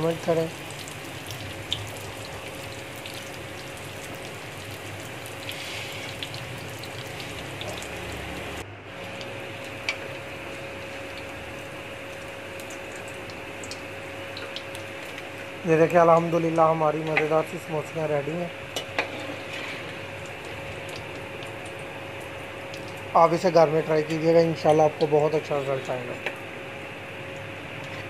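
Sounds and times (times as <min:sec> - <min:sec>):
fat sizzling while deep-frying: 0:00.0 - 0:28.0.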